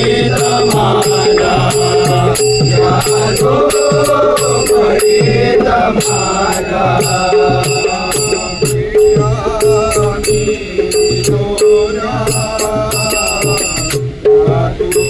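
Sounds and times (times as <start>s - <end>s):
drum beats: 0.0s - 15.0s
ringing metallic cymbal strokes: 0.0s - 15.0s
wavering instrumental melody: 0.0s - 15.0s.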